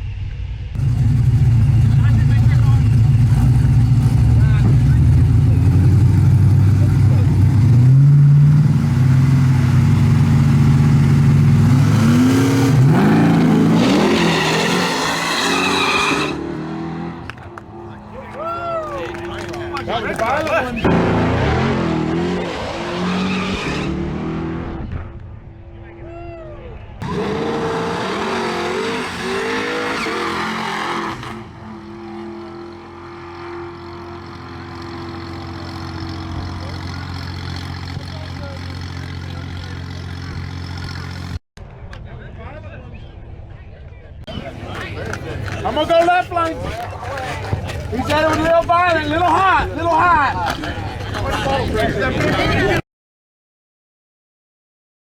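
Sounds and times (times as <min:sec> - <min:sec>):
racing car engine idling and revving: 0:00.0 - 0:25.4, 0:27.0 - 0:41.4, 0:44.3 - 0:52.8.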